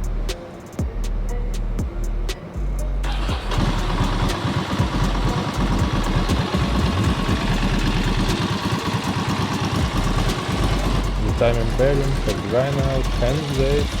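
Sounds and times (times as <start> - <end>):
mechanical engine noise: 0.0 - 14.0
motorcycle engine starting and idling: 0.0 - 14.0.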